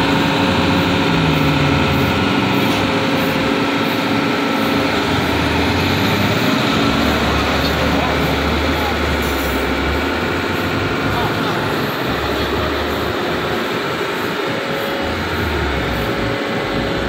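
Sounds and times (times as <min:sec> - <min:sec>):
deeper engine hum: 0:00.0 - 0:17.0
vehicle engine running: 0:00.0 - 0:17.0.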